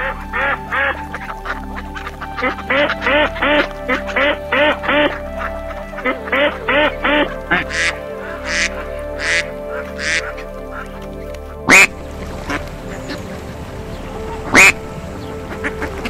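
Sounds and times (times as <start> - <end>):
duck quacking: 0.0 - 10.9, 11.7 - 13.6, 14.3 - 16.0.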